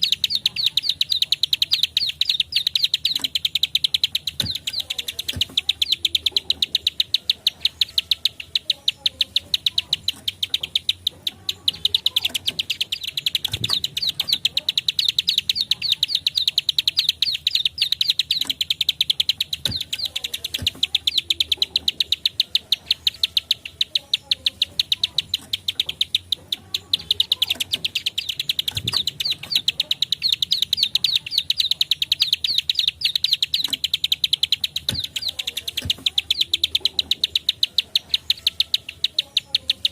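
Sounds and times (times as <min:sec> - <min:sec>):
bird rapid clicking call: 0:00.0 - 0:39.9.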